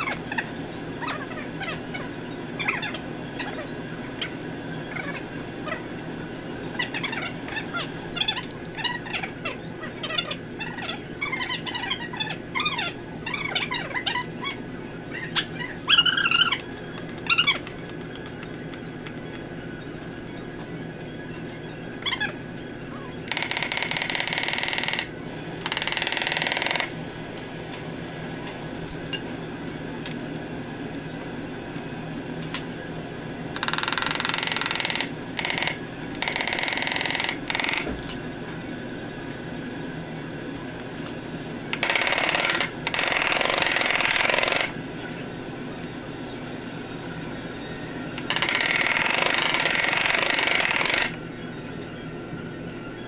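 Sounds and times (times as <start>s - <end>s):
low hum of shop machinery: 0.0s - 53.0s.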